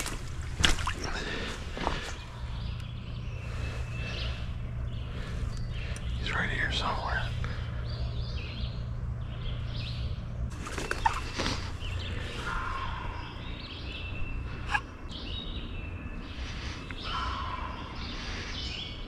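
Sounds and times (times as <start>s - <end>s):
low rumble: 0.0s - 19.0s
songbirds chirping: 0.0s - 19.0s.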